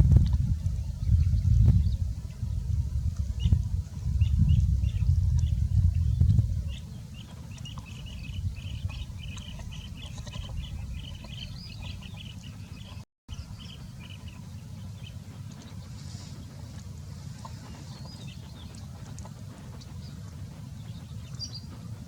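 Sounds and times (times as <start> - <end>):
steady low rumble: 0.0 - 22.0
small birds chirping: 0.1 - 16.5, 17.4 - 21.8.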